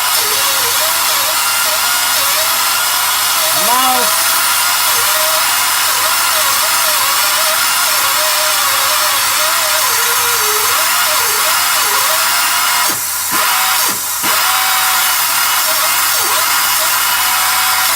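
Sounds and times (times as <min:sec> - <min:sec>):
pneumatic air cutter cutting steel: 0:00.0 - 0:17.9.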